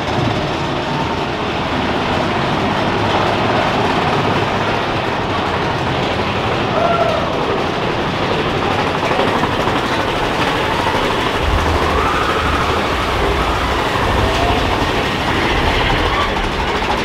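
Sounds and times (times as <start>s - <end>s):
roller coaster rattling on track: 0.0s - 17.0s.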